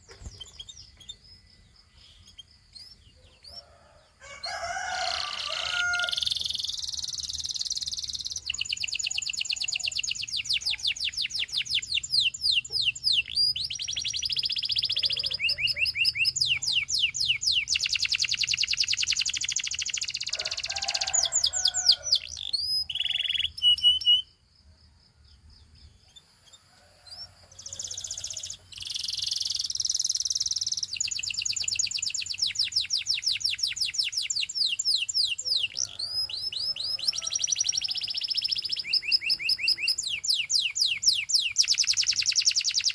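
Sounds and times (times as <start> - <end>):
canary singing trilled song: 0.0 - 24.4, 25.7 - 42.9.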